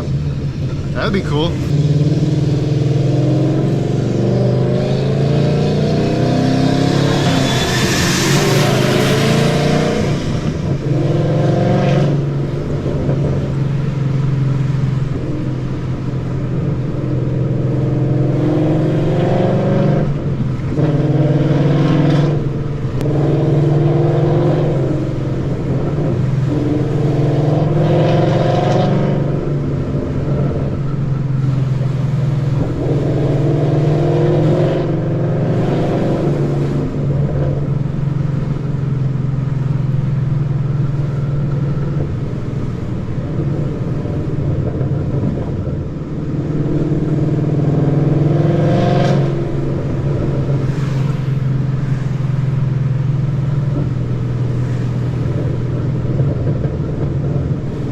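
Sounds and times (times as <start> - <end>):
car engine accelerating: 0.0 - 57.9.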